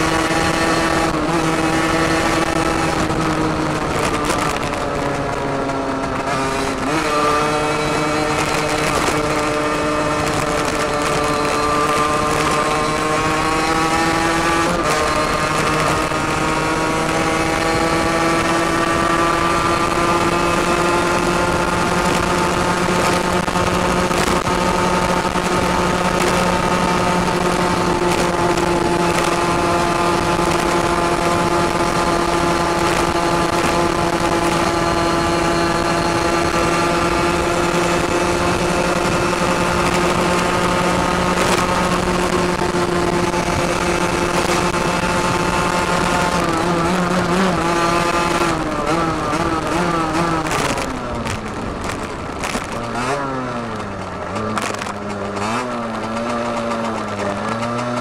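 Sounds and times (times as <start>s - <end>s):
two-stroke motorbike engine revving: 0.0s - 58.0s.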